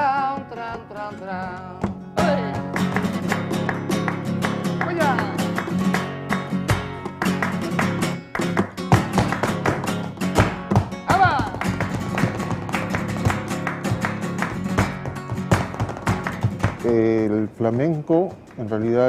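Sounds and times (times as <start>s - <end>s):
flamenco acoustic guitar: 0.0s - 19.0s.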